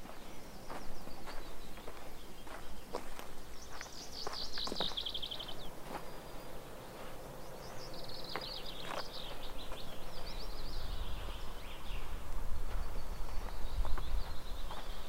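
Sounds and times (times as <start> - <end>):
songbirds trilling: 0.0 - 15.0.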